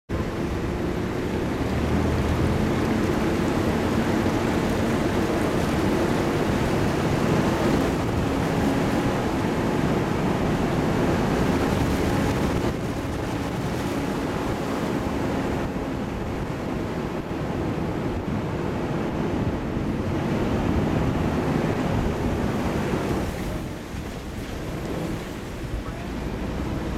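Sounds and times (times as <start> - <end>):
tyre and road noise: 0.1 - 26.9
wind noise on microphone: 0.1 - 26.9.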